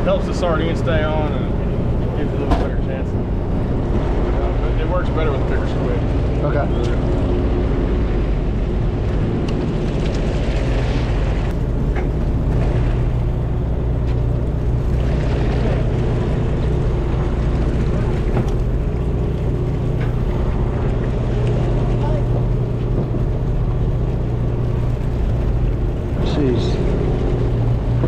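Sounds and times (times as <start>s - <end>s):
boat engine humming: 0.0s - 28.0s
water washing against hull: 0.0s - 28.0s.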